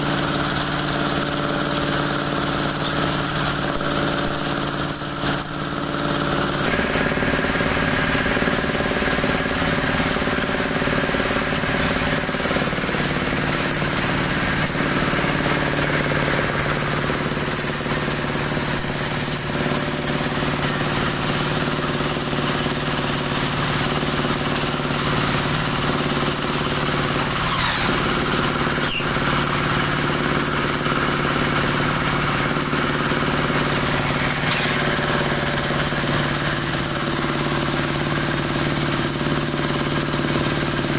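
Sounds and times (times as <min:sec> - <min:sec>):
dowel machine running: 0:00.0 - 0:40.9.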